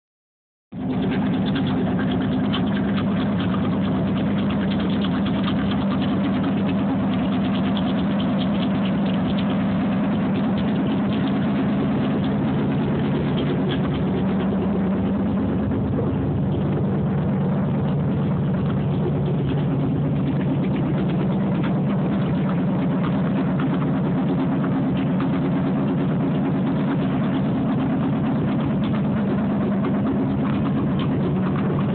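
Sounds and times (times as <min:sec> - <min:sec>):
car engine idling: 0:00.7 - 0:31.9.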